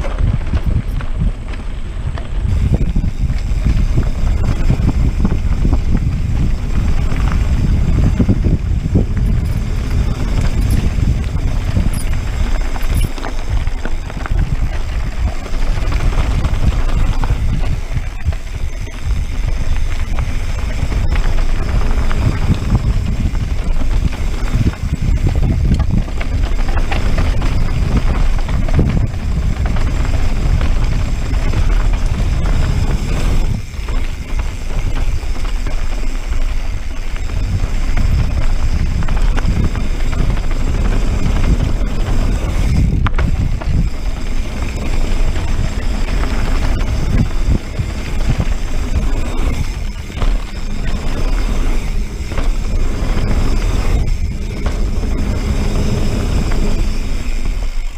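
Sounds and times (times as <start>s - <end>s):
tyres over loose gravel: 0.0s - 57.9s
wind buffeting microphone: 0.0s - 57.9s.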